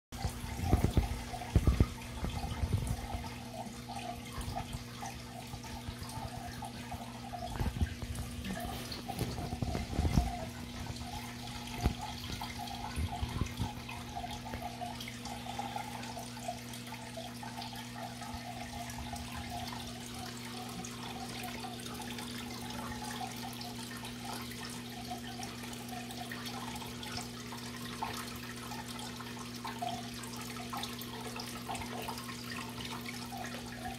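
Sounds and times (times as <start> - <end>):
low pump hum: 0.2 - 33.9
water bubbling in fish tank: 0.2 - 33.9.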